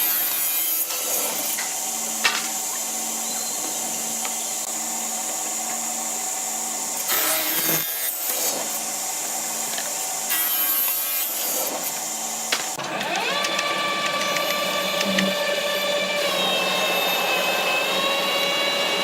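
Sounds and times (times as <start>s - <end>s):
woodworking power tool running: 0.0s - 19.0s.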